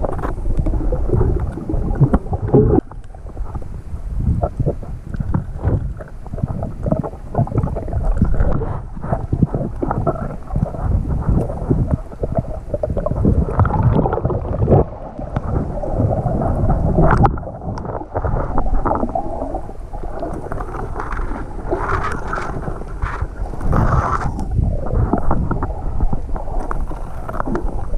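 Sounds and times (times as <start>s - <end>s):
water swishing and bubbling underwater: 0.0s - 27.9s.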